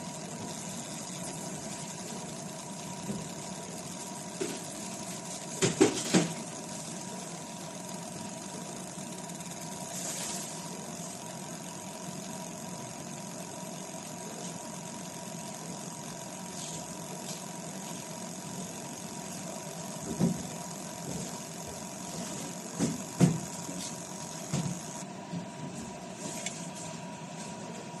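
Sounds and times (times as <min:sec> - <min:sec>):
laser marking machine humming: 0:00.0 - 0:28.0.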